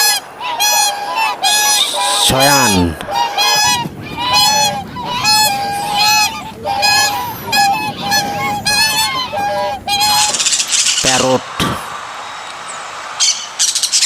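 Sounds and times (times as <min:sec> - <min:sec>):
swan honking: 0:00.0 - 0:11.4.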